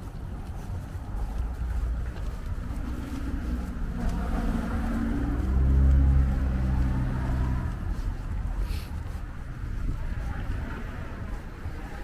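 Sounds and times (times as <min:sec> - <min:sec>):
vehicle engine passing slowly: 0:00.0 - 0:12.0.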